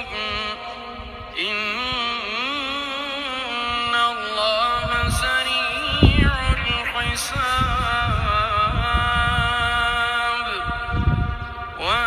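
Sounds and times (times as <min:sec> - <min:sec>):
low rumbling noise: 0:00.0 - 0:12.0
man reciting melodically: 0:00.0 - 0:12.0.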